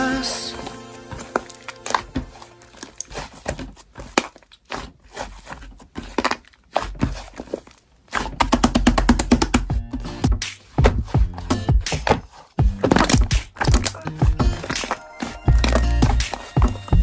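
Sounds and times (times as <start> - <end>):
slime squishing: 1.3 - 17.0.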